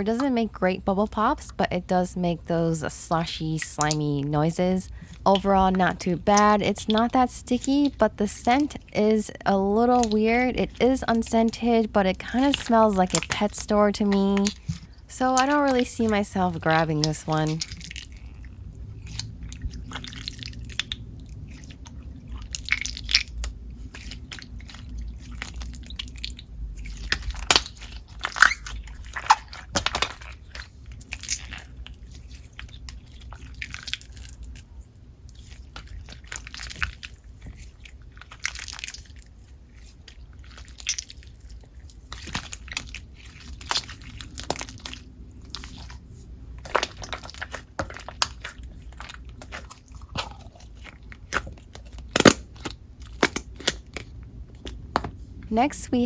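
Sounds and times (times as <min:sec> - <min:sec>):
slime squelching: 0:00.0 - 0:56.0
slime crackles: 0:03.1 - 0:54.9.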